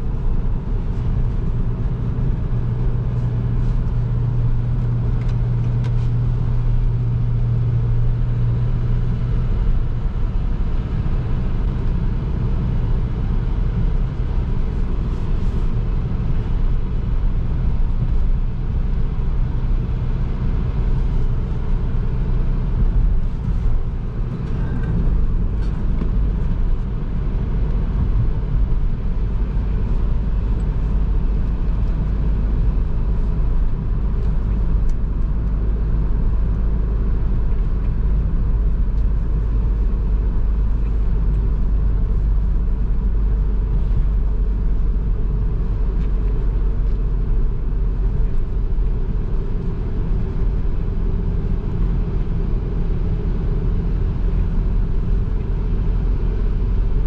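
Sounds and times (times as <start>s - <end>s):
diesel van engine running: 0.0s - 57.0s
road noise: 0.0s - 57.0s.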